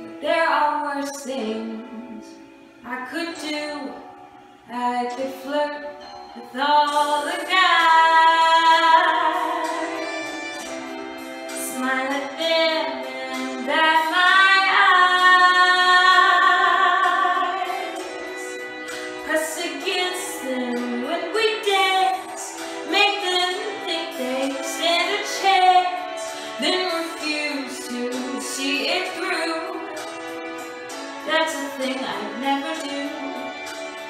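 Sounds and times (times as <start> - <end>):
woman singing unaccompanied: 0.0 - 4.1, 4.7 - 10.9, 11.5 - 18.6, 19.2 - 30.0, 31.3 - 33.7.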